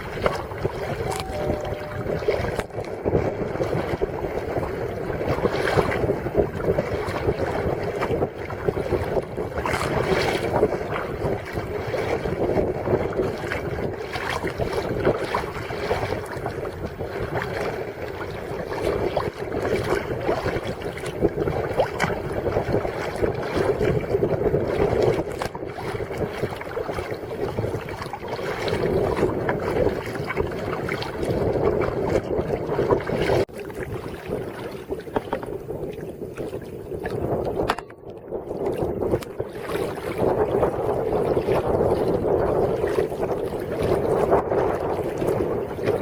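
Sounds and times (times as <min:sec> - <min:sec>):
water splashing from paddling: 0:00.0 - 0:46.0
wind noise on microphone: 0:00.0 - 0:46.0.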